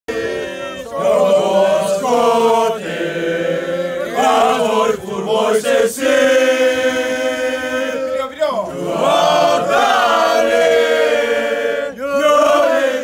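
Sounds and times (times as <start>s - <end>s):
men singing together: 0.1s - 13.0s.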